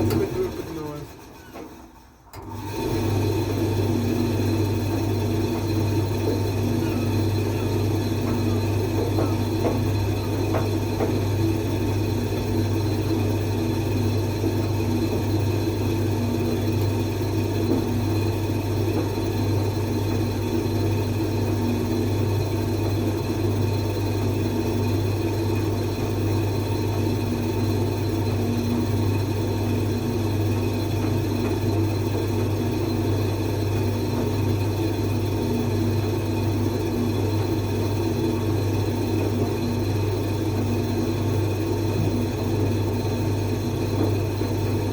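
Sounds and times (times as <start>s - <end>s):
appliance humming: 0.0s - 44.9s.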